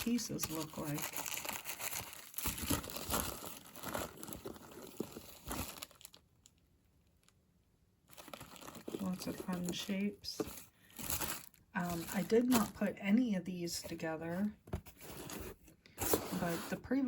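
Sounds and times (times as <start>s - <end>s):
wrapping crinkling and rustling: 0.0s - 7.4s, 8.0s - 13.0s, 13.7s - 16.8s.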